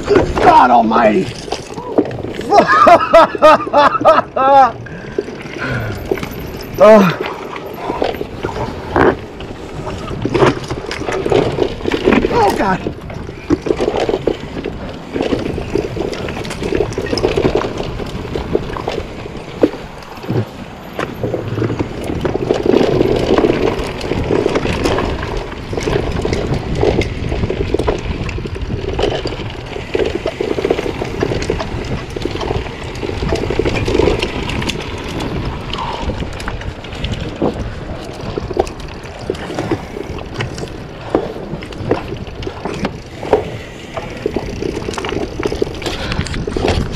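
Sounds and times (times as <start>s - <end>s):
bike clattering over rock: 0.0s - 46.9s
wind buffeting on microphone: 1.2s - 46.9s.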